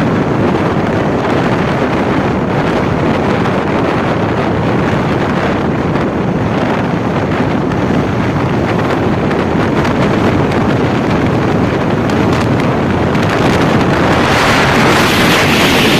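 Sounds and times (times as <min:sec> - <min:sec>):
strong wind buffeting microphone: 0:00.0 - 0:15.9.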